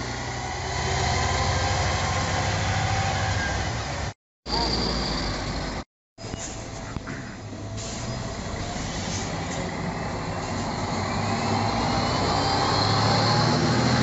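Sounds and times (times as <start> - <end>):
bus engine hum: 0.0 - 14.0.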